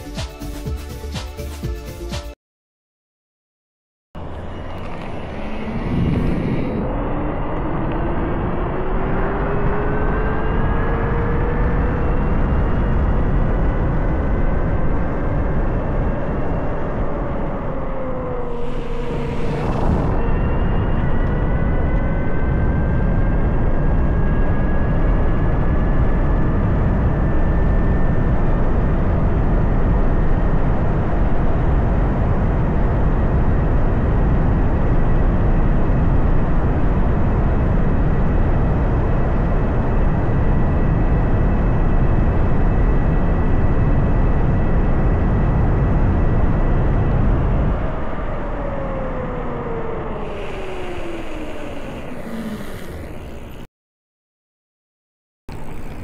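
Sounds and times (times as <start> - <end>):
electric bike motor whine: 4.2 - 53.7, 55.5 - 56.0
wind rush on microphone: 4.2 - 53.7.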